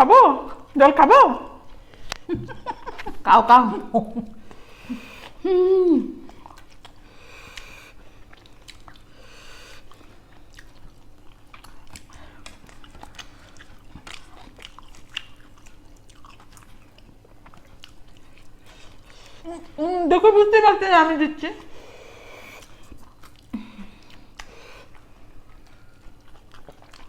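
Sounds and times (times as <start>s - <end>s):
people chewing food: 1.5s - 27.0s.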